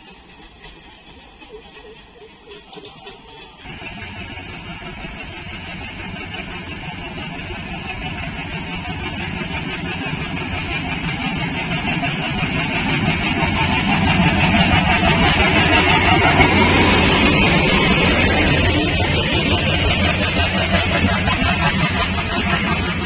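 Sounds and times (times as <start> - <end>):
diesel locomotive engine throb: 0.0 - 23.0.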